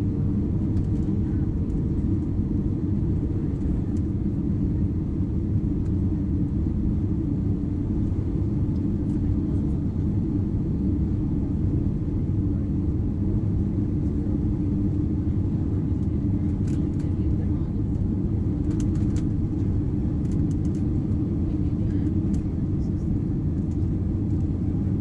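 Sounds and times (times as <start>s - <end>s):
airplane engines rumbling: 0.0s - 25.0s.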